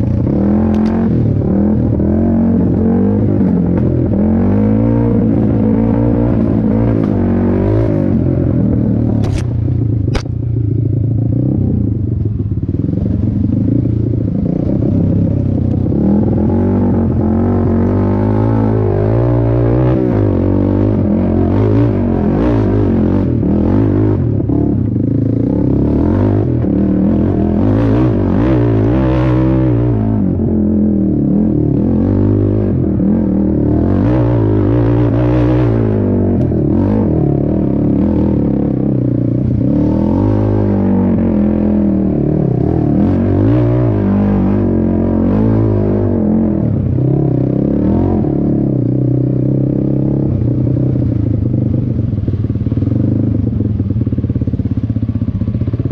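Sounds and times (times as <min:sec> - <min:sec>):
quad engine revving: 0:00.0 - 0:10.3, 0:13.6 - 0:51.0.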